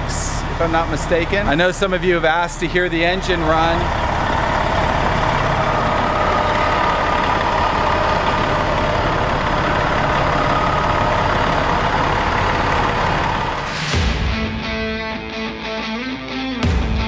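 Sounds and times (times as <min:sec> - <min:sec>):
diesel bus engine idling: 0:00.0 - 0:14.6.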